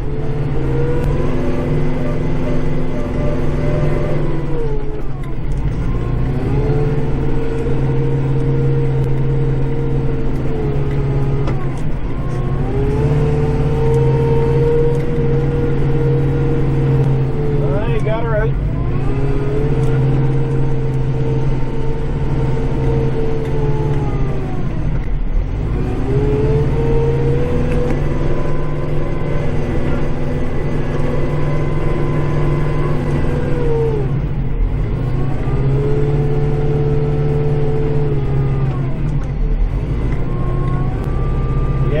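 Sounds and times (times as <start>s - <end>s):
diesel tractor engine running: 0.0s - 42.0s
machine whine: 0.0s - 42.0s.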